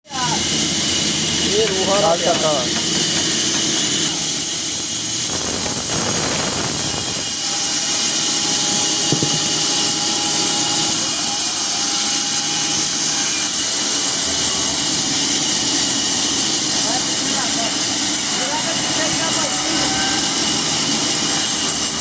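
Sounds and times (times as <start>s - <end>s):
band sawmill running: 0.1s - 22.0s.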